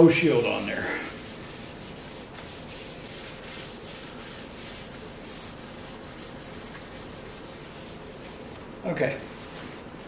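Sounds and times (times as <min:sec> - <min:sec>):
paper towel rubbing on metal: 0:00.0 - 0:10.0.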